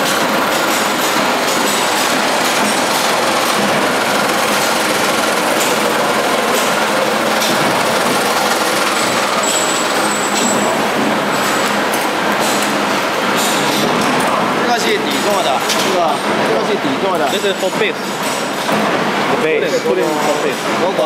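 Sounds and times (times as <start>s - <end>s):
metalworking machinery running: 0.0s - 21.0s.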